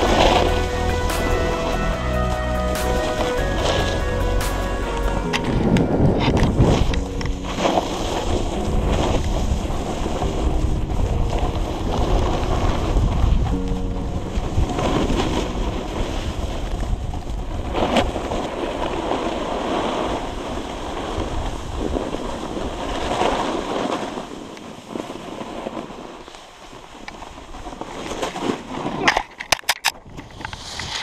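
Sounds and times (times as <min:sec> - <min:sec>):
wind rumbling on the microphone: 0:00.0 - 0:01.6, 0:05.1 - 0:31.0
snowboard scraping over snow: 0:00.0 - 0:29.2, 0:30.1 - 0:31.0.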